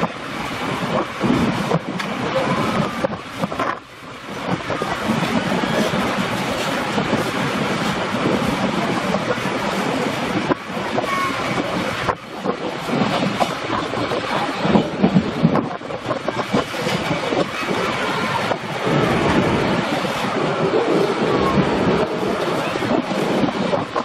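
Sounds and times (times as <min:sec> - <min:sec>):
wind rushing: 0:00.0 - 0:24.0.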